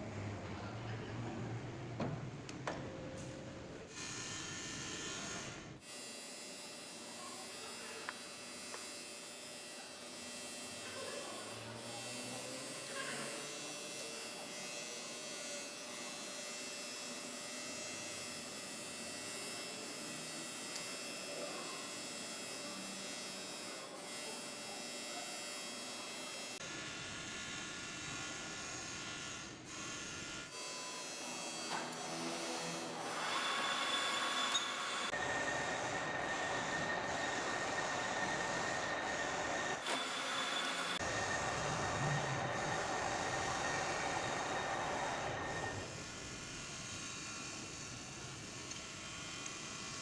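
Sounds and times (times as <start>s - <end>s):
workshop machinery humming: 0.0s - 27.1s, 27.8s - 50.0s.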